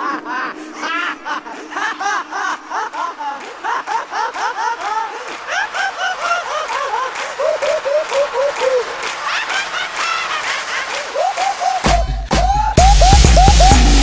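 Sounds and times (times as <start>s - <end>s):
high-pitched laughter: 0.0s - 14.0s.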